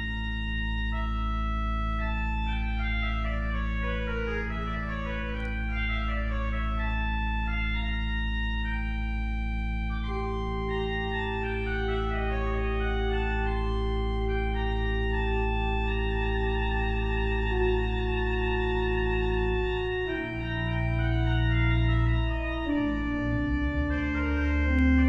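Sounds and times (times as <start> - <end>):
organ playing: 0.0 - 25.0.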